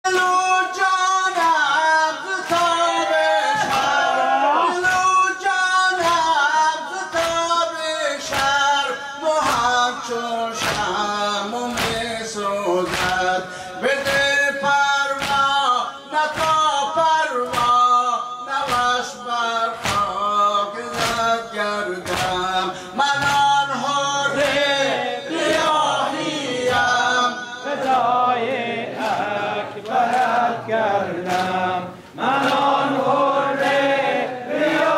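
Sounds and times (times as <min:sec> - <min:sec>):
man chanting a lament: 0:00.0 - 0:32.7.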